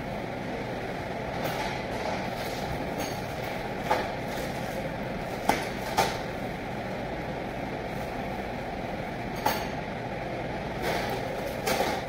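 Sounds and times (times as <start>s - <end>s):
steady background drone: 0.0s - 12.0s.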